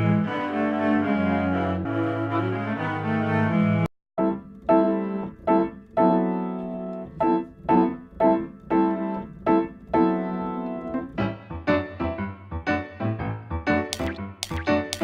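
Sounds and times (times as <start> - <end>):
piano-like chords: 0.0 - 15.0.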